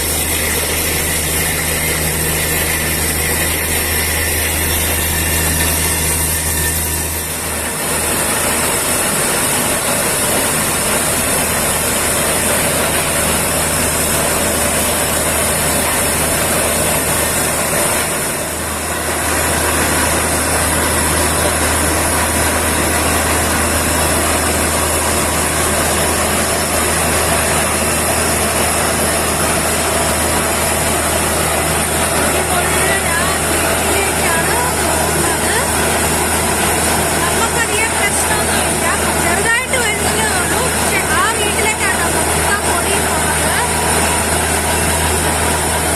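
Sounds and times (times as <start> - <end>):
drilling rig engine drone: 0.0 - 45.9.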